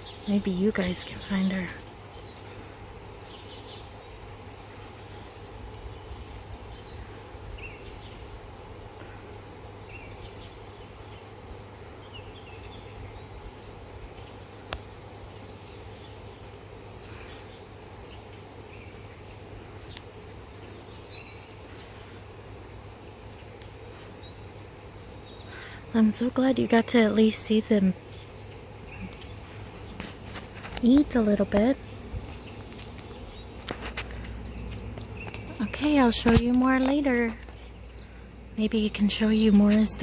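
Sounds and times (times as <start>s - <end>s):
outdoor background hum: 0.0s - 40.0s
small birds chirping: 0.0s - 40.0s.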